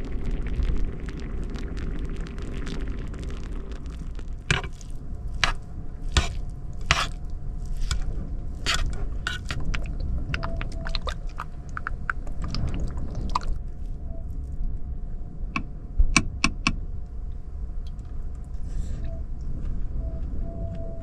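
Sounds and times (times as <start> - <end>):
wind and rain on car: 0.0 - 18.5
faint steady hum: 0.0 - 21.0.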